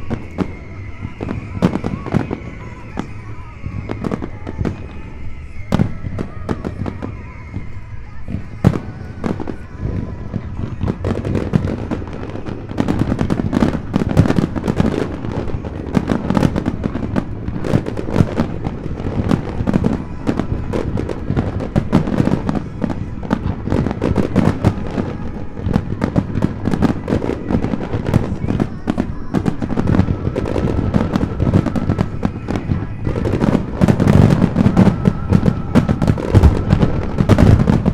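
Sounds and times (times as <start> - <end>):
fireworks bangs crackling: 0.0 - 37.9.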